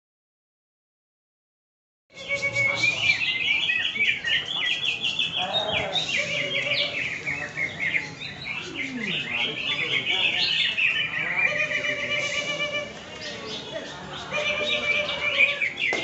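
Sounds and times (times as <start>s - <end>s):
bird chirps and trills: 2.1s - 16.0s.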